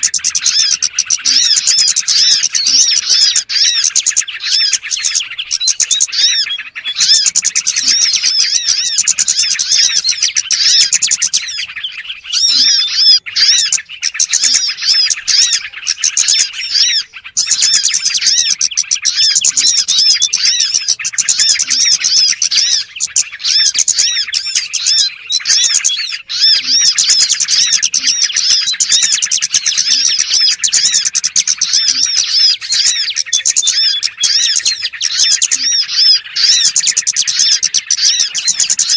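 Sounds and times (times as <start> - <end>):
recorded songbird chirping: 0.0 - 38.9.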